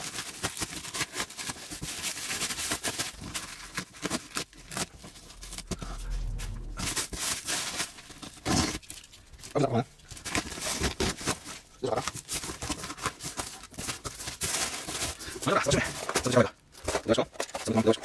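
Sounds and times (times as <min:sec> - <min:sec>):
plastic wrapping crinkling and ripping: 0:00.0 - 0:05.8, 0:06.8 - 0:18.0.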